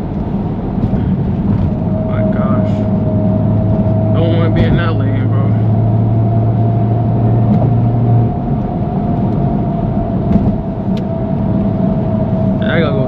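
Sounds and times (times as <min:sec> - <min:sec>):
car engine and exhaust running: 0:00.0 - 0:13.0
road and tyre noise: 0:00.0 - 0:13.0
steady low drone: 0:00.0 - 0:13.0.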